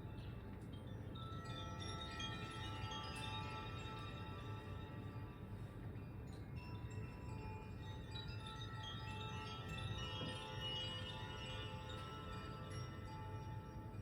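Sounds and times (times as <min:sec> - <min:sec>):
chimes ringing: 0:00.8 - 0:14.0.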